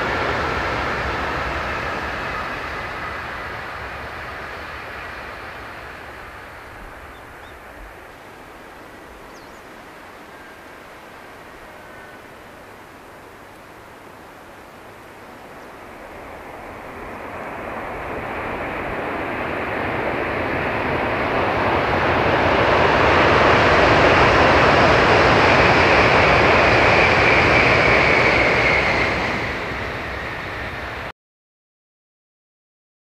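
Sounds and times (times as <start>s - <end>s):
bullet train passing at speed: 0.0s - 31.1s.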